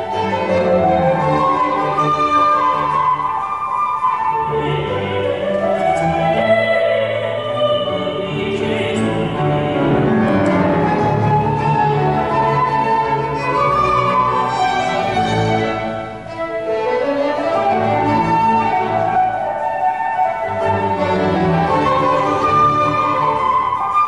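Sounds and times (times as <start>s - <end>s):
string ensemble playing: 0.0s - 24.0s.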